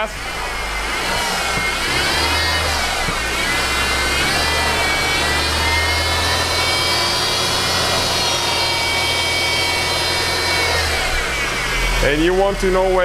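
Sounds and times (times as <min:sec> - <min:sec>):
car engine at raised revs: 0:00.0 - 0:13.0
high whine of pulley: 0:00.0 - 0:13.0.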